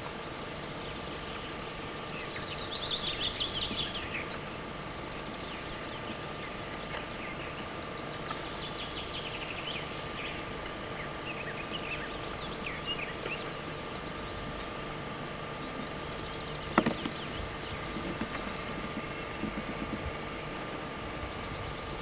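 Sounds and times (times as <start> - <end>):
steady background hum: 0.0 - 22.0
small birds chirping: 0.8 - 4.5, 5.1 - 14.7, 15.3 - 20.4.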